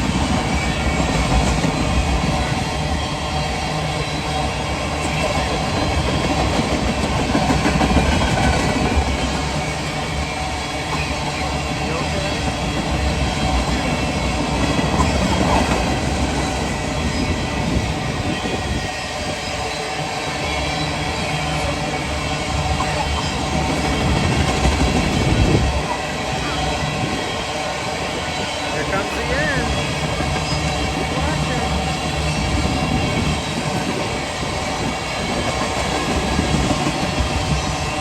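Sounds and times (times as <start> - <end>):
freight train wheels clattering: 0.0 - 38.0.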